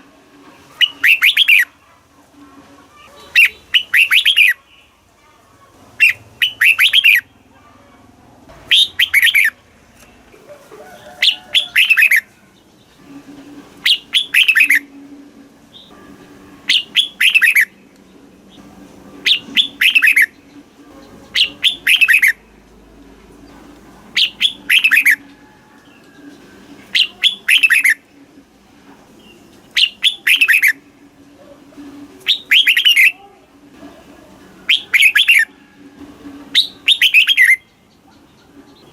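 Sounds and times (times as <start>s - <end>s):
bulbul singing: 0.7s - 1.8s, 3.2s - 5.0s, 6.0s - 7.5s, 8.6s - 10.2s, 11.1s - 28.5s, 29.1s - 31.2s, 31.9s - 33.4s, 34.3s - 38.9s.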